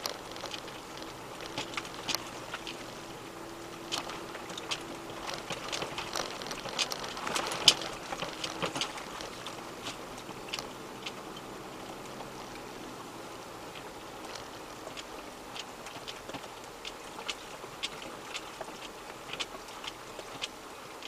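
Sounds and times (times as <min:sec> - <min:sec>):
faint engine hum: 0:00.0 - 0:21.0.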